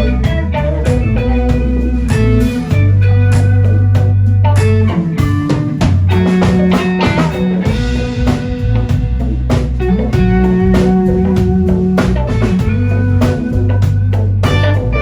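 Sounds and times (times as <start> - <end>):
bass line: 0.0 - 15.0
drum kit: 0.0 - 15.0
electric guitar picking: 0.0 - 15.0.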